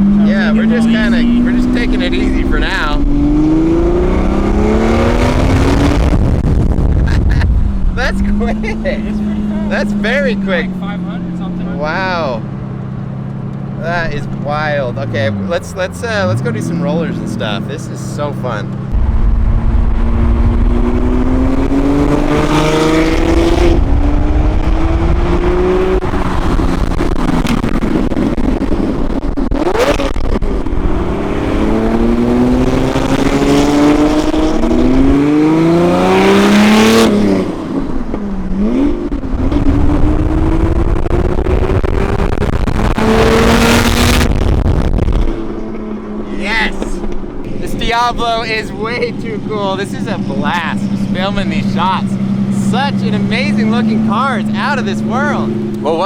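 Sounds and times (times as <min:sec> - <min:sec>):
sports car engine accelerating: 0:00.0 - 0:56.0.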